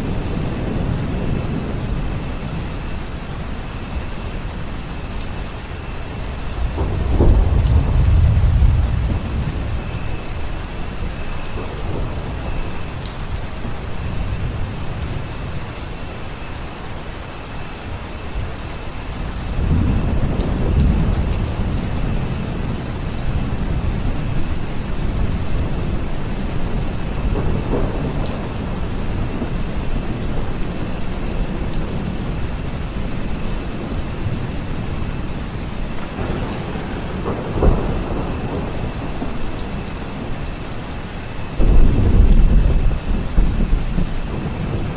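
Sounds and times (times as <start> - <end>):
thunder rumbling: 0.0 - 16.5, 18.3 - 44.9
steady rain falling: 0.0 - 44.9.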